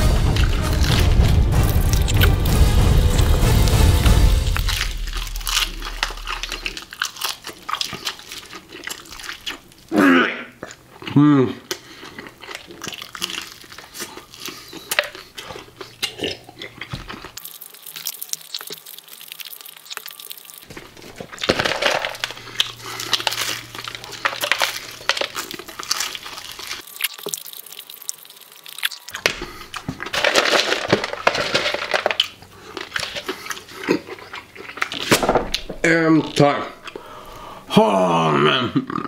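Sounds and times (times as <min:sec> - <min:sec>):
crunching fried chicken: 0:00.0 - 0:37.1.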